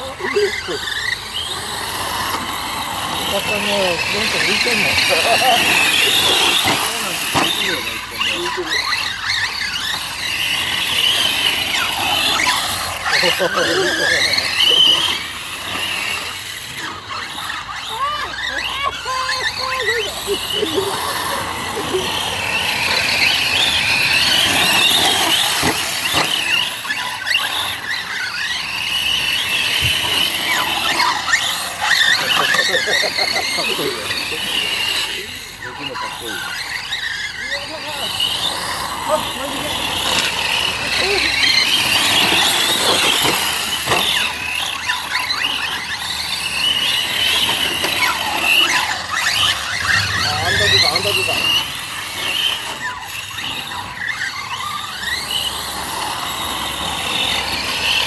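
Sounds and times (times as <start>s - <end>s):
tyres hissing on dirt: 0.0s - 16.4s, 17.4s - 58.0s
rc car motor whine: 0.0s - 58.0s.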